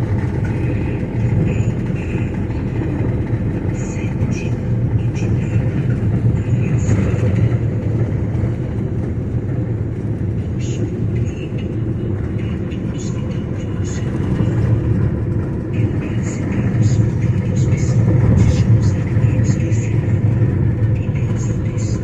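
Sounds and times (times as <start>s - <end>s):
moving vehicle rumble: 0.0s - 22.0s.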